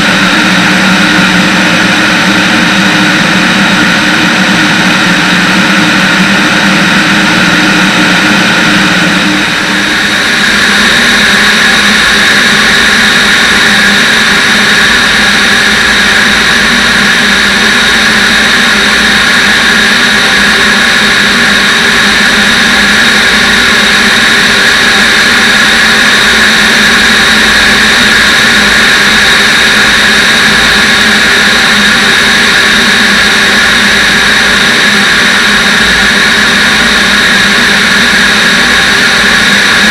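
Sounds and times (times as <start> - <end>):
propeller engine drone: 0.0 - 39.9
wind rush: 0.0 - 39.9.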